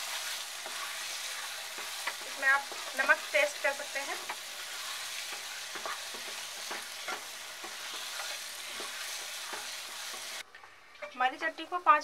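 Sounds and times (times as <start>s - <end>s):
spatula scraping and stirring: 0.0s - 10.4s
food sizzling in oil: 0.0s - 12.0s.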